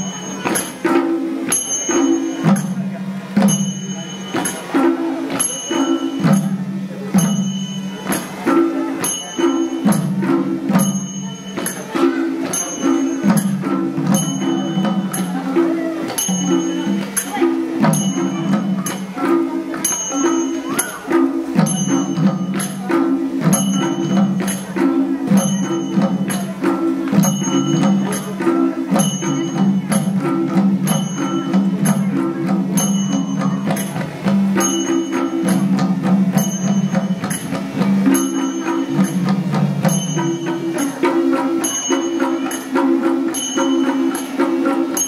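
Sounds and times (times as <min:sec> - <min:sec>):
cymbal strikes: 0:00.0 - 0:45.0
drums played in unison: 0:00.0 - 0:45.0.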